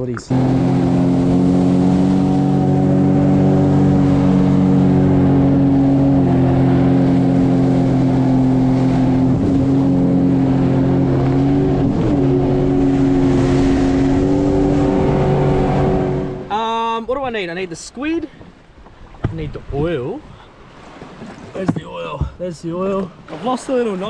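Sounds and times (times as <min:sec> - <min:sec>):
jet ski engine running: 0:00.0 - 0:24.0
water rushing under hull: 0:00.0 - 0:24.0.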